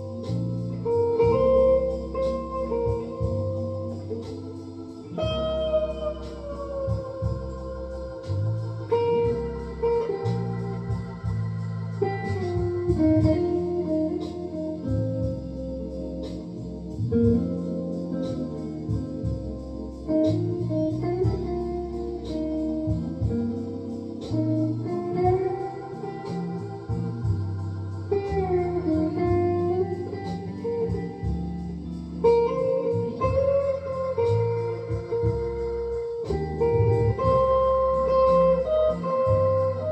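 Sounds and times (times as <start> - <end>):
electric guitar melody: 0.0 - 39.9.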